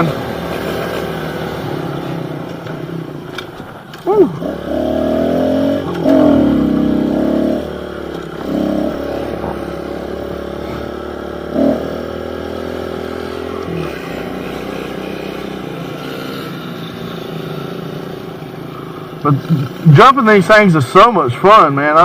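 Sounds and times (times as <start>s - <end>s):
small motorcycle engine revving: 0.0s - 20.4s.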